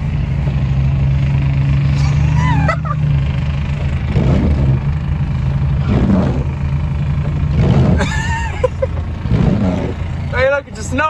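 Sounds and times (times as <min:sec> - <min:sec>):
engine drone inside vehicle cabin: 0:00.0 - 0:11.0
truck engine revving: 0:00.0 - 0:11.0.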